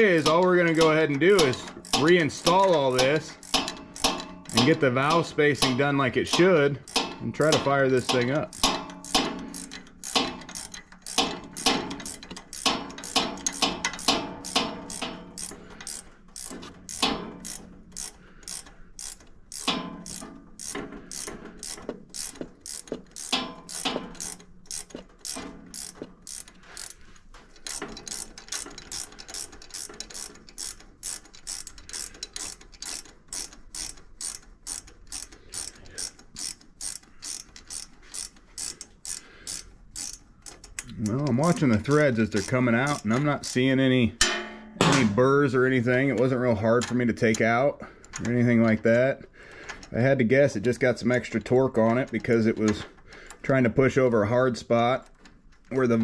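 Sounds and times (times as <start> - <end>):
ratchet wrench clicking: 0.0 - 44.4, 49.5 - 53.5.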